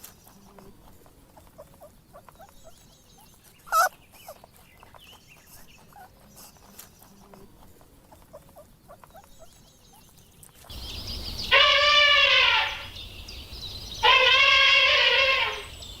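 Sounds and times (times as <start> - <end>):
faint chirping: 0.0 - 16.0
animal calling: 0.3 - 13.0, 13.9 - 15.9.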